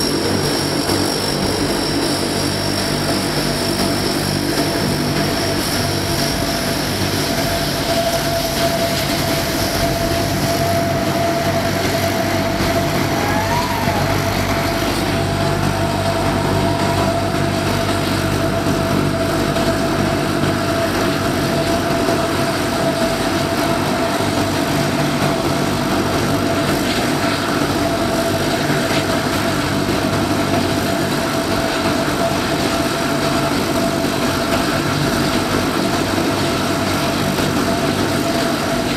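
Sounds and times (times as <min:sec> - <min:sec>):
turboprop engines whining: 0:00.0 - 0:38.9.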